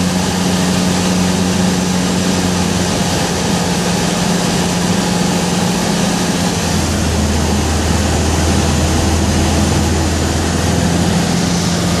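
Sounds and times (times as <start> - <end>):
light aircraft engine drone: 0.0 - 12.0.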